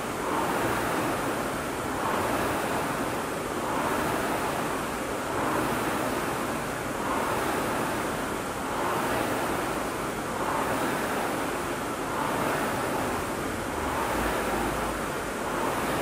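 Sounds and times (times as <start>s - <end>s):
rowing machine fan whooshing: 0.0s - 16.0s.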